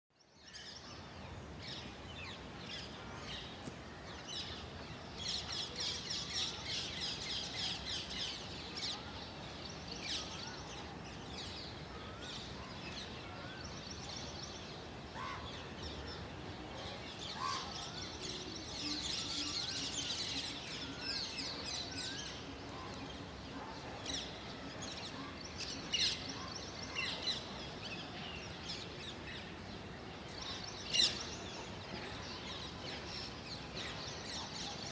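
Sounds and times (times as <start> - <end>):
steady background hiss: 0.3 - 34.9.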